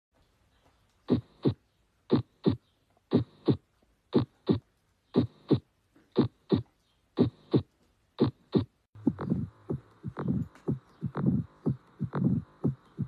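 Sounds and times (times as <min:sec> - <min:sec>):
heartbeat lub-dub: 0:01.1 - 0:13.0.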